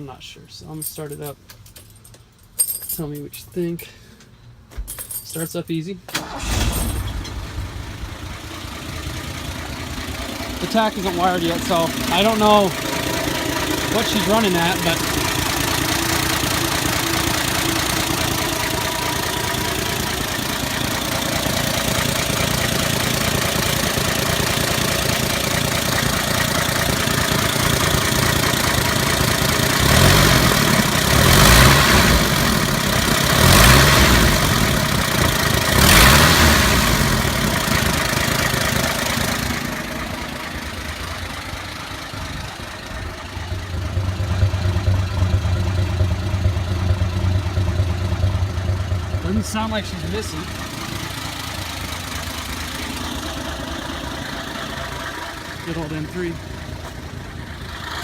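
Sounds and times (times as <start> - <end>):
engine running with knocking: 7.2 - 58.0.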